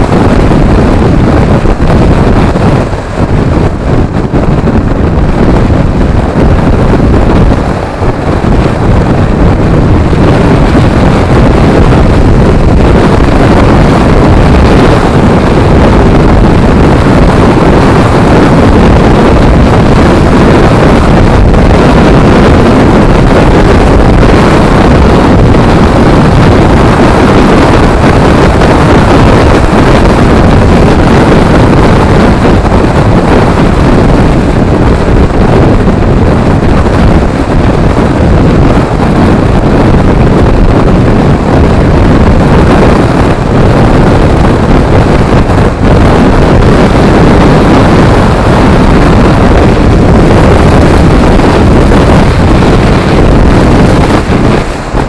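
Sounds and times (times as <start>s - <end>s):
motorcycle running: 0.0s - 55.0s
wind rush on microphone: 0.0s - 55.0s.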